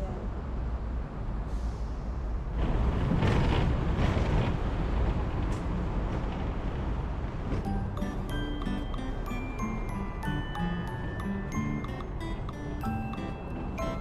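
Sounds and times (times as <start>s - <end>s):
traffic rumble with road hiss: 0.0s - 14.0s.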